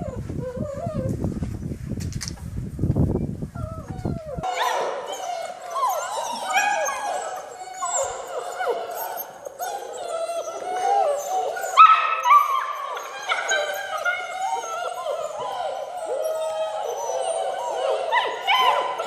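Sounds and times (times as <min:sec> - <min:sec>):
puppies whining and yelping: 0:00.0 - 0:01.1, 0:03.5 - 0:19.0.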